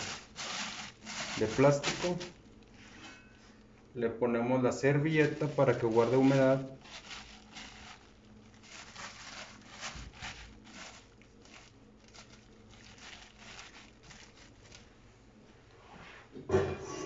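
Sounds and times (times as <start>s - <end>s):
towel and plastic bag rustling: 0.0s - 3.9s, 4.7s - 16.3s.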